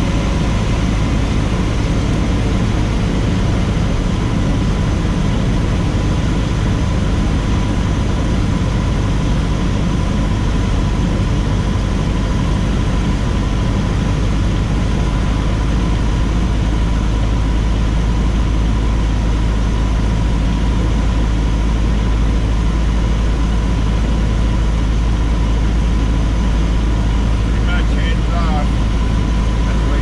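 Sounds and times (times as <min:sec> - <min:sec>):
small plane engine droning: 0:00.0 - 0:30.0
thin steady whine: 0:00.0 - 0:30.0.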